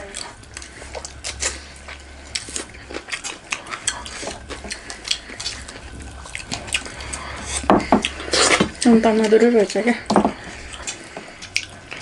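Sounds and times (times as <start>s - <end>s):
chewing and lip smacks: 0.0s - 12.0s.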